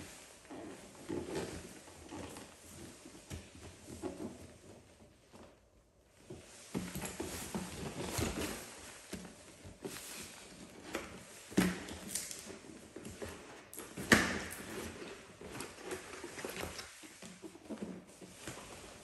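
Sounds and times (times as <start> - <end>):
cardboard rustling scrapes: 0.0 - 19.0.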